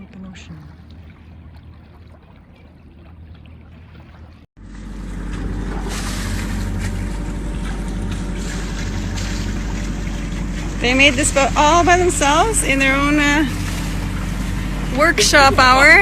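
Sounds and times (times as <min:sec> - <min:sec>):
boat engine droning: 0:00.0 - 0:16.0
water rushing: 0:00.0 - 0:16.0
wind: 0:00.0 - 0:16.0.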